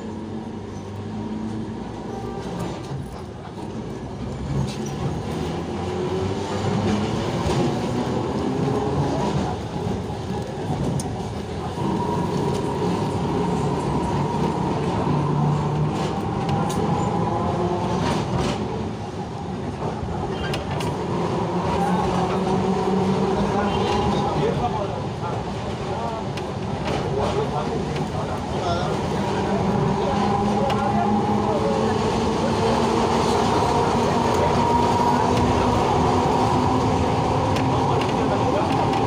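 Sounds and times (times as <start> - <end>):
tram wheels rumbling on rails: 0.0 - 39.0.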